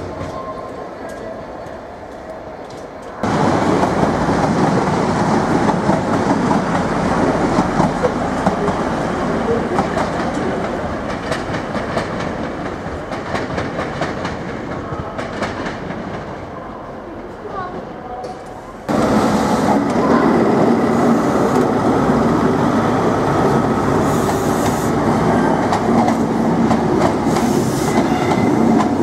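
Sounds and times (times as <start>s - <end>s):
train passing close by: 0.0s - 29.0s.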